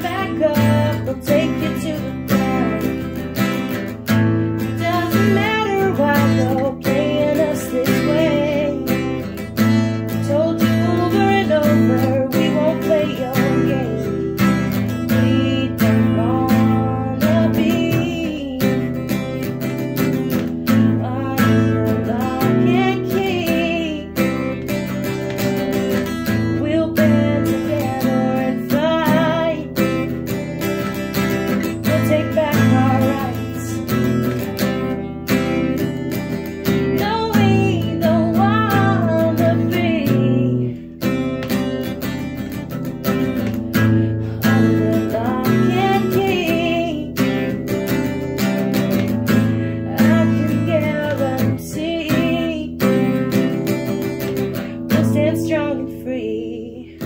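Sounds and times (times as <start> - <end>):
acoustic guitar strumming: 0.0 - 57.0
person singing: 0.0 - 57.0.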